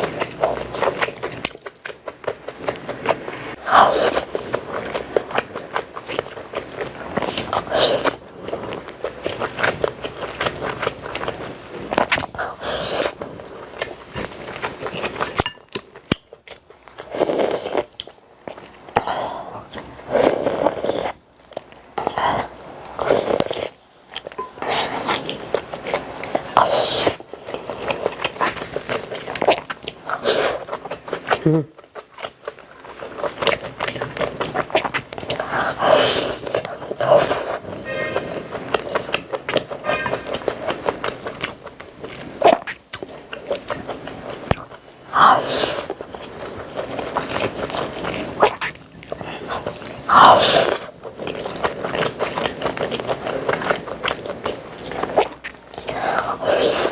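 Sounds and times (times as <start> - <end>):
person chewing: 0.0 - 56.9.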